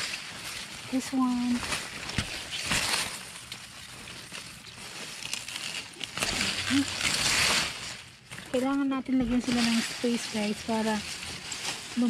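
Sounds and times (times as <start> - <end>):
leaves rustling and crackling: 0.0 - 12.0.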